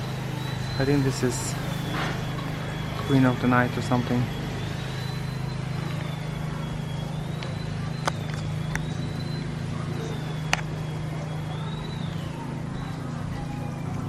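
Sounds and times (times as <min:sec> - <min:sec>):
faint high whine: 0:00.0 - 0:14.0
low mechanical hum: 0:00.0 - 0:14.0.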